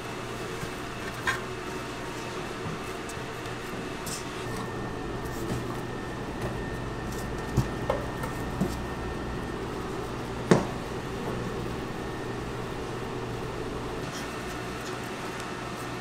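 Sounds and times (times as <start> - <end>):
kitchen ventilation hum: 0.0 - 16.0.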